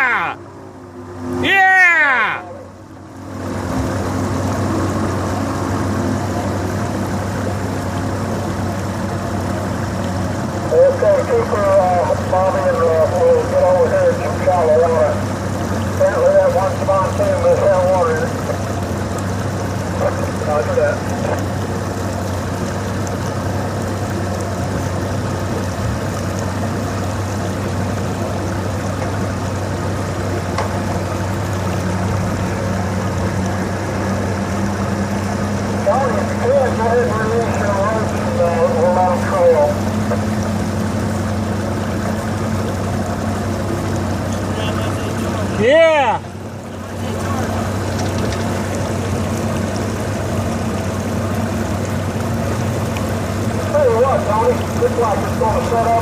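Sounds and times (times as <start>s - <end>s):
motorboat engine running: 0.0s - 56.0s
water and wind rushing: 0.0s - 56.0s.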